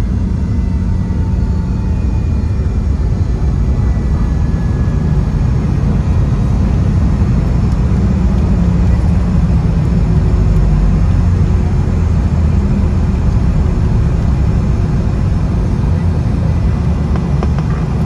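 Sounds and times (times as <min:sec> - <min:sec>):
jet engines: 0:00.0 - 0:18.0
wheels rumbling on runway: 0:00.0 - 0:18.0.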